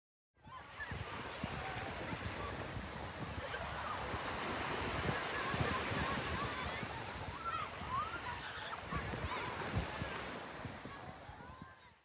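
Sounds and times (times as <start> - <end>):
wind buffeting microphone: 0.4 - 12.0
surf washing onto beach: 0.7 - 11.9.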